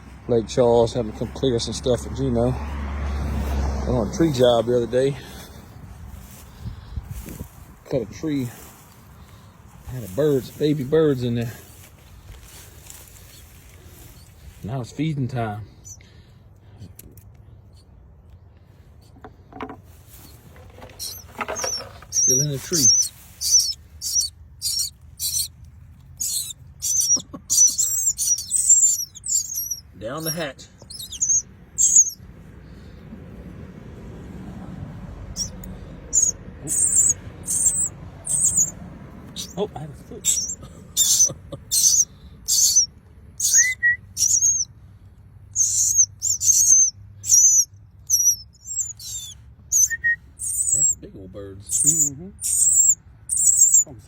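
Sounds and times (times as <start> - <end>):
nestling birds begging calls: 0.0 - 16.8, 19.6 - 54.0.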